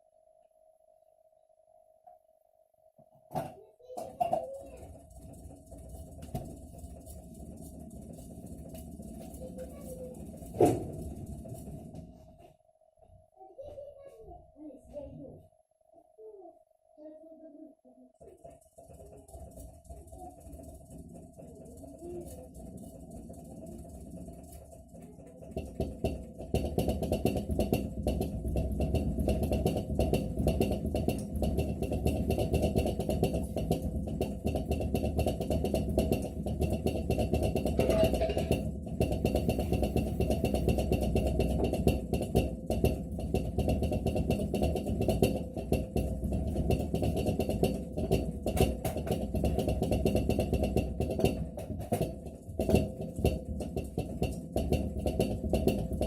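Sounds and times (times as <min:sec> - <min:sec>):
low refrigerator hum: 0:00.0 - 0:56.0
refrigerator rattling clatter: 0:04.1 - 0:12.2, 0:18.3 - 0:56.0.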